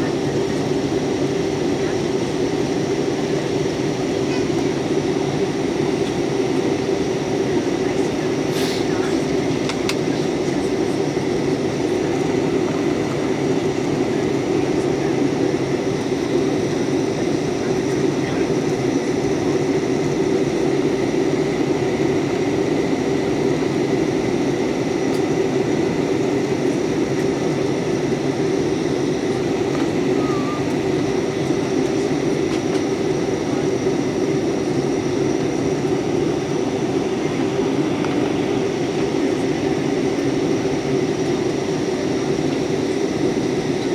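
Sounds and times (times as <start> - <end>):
jet engine and airflow roar: 0.0 - 43.9.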